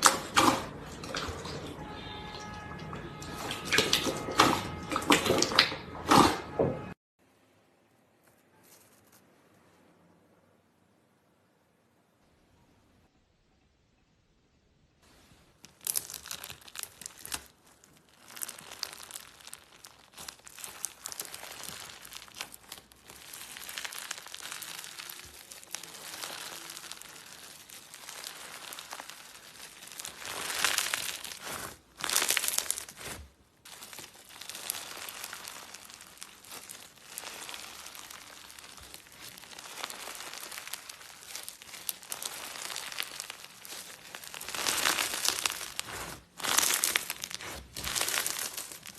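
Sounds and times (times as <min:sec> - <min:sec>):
slime squeezed crackling and popping: 0:00.0 - 0:06.3, 0:15.5 - 0:48.9.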